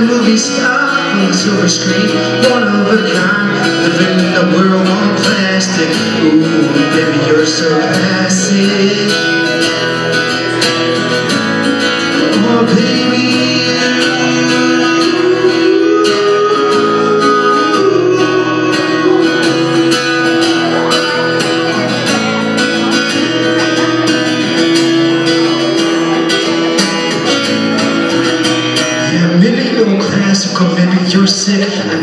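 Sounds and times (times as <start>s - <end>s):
man singing: 0.0s - 32.0s
strummed acoustic guitar: 0.0s - 32.0s.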